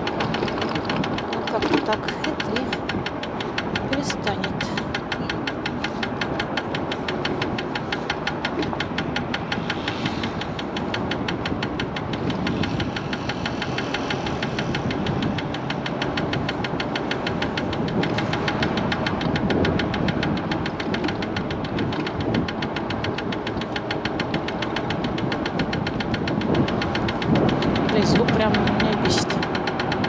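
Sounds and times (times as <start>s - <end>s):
scooter wheel knocking: 0.0s - 30.0s
wind and road rush: 0.0s - 30.0s.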